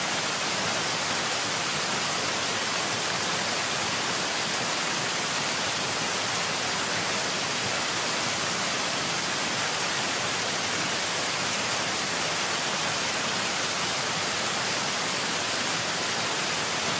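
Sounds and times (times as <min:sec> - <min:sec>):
floodwater rushing: 0:00.0 - 0:16.9.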